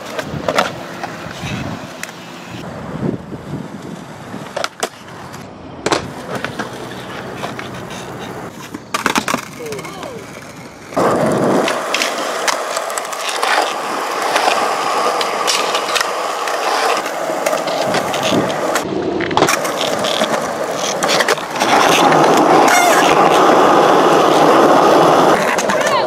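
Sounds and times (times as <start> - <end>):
skateboard grinding on ledge: 0.0 - 26.0
skateboard wheels rolling on concrete: 0.0 - 26.0
skateboard clacks popping and landing: 4.4 - 26.0.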